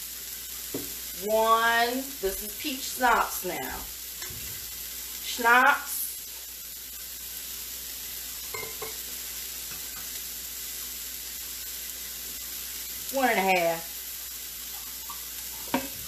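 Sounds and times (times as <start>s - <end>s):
potatoes sizzling in a pan: 0.0s - 16.0s.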